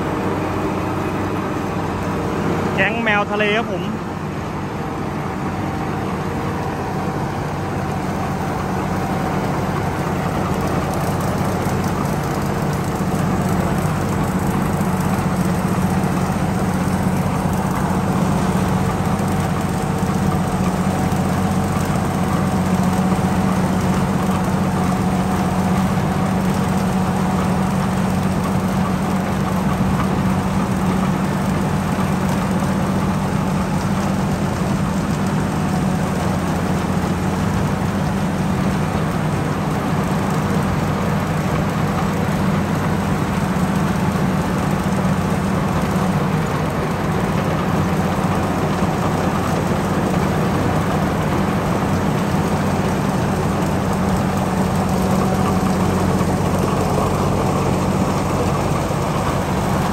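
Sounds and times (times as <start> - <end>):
combine harvester droning and whining: 0.0 - 59.9.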